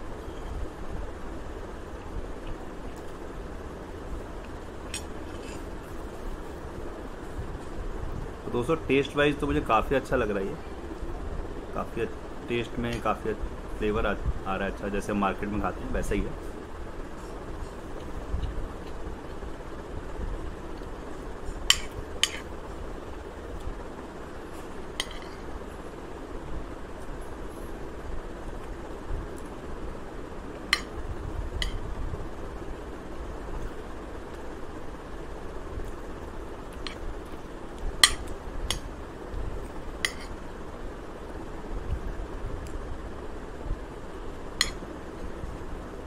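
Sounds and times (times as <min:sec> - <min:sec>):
low steady background hum: 0:00.0 - 0:46.0
steady background hiss: 0:00.0 - 0:46.0.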